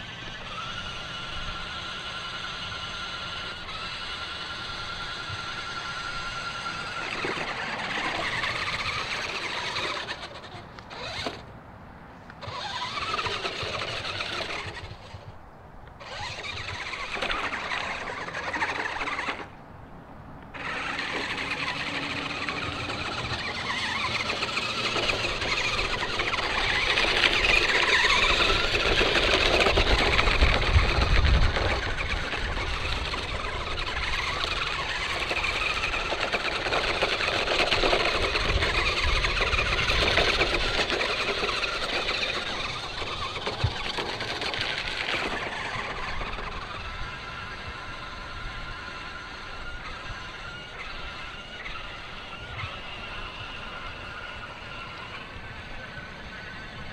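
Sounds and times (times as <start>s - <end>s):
rc truck motor and gears whining: 0.0s - 56.9s.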